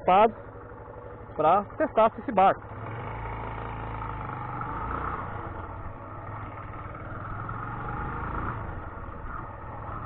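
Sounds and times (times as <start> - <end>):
motorcycle engine drone: 0.0 - 10.0
road noise: 0.0 - 10.0.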